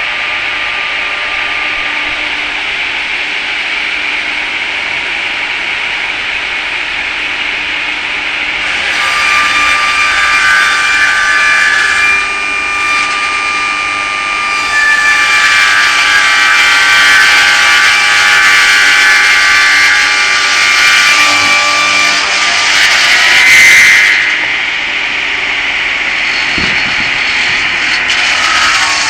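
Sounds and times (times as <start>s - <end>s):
circular saw blade whining: 0.0s - 29.0s.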